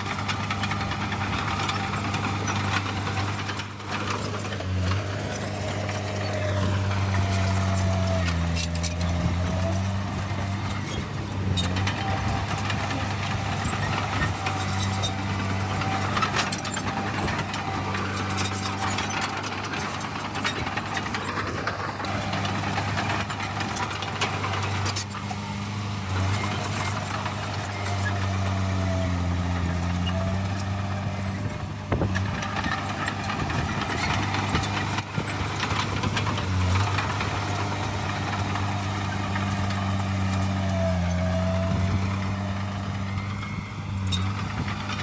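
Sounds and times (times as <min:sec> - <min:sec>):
diesel machinery engine running: 0:00.0 - 0:45.0
machinery rattling and clanking: 0:00.0 - 0:45.0.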